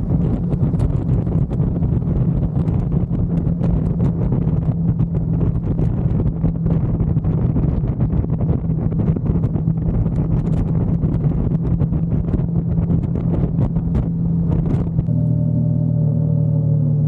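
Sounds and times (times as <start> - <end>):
wind buffeting microphone: 0.0 - 15.1
vehicle engine running: 0.0 - 17.0.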